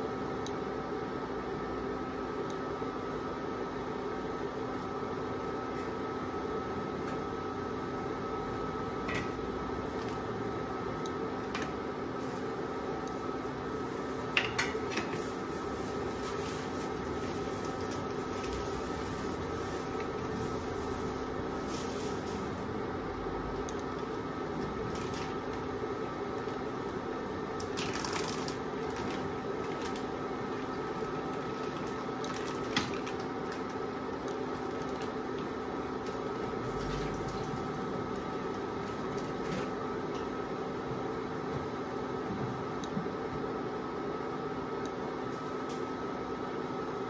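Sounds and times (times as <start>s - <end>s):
cooktop electric hum: 0.0s - 47.0s.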